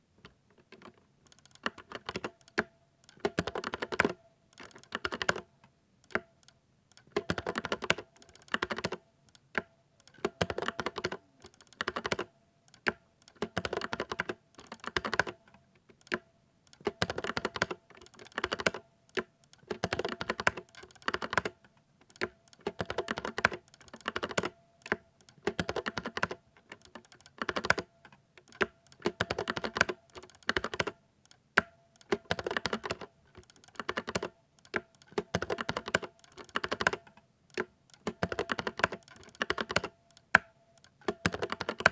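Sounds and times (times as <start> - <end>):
mechanical keyboard typing: 0.7 - 15.4, 16.0 - 41.9.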